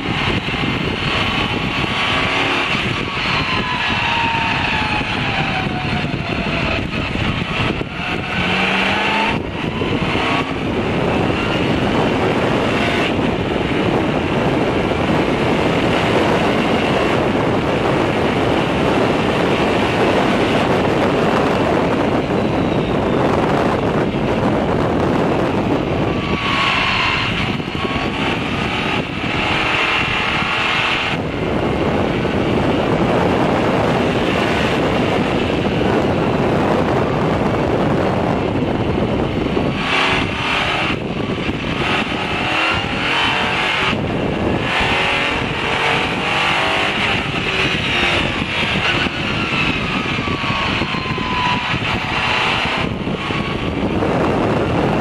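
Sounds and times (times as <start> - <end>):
racing car engine: 0.0 - 55.0
steady rushing noise: 0.0 - 55.0.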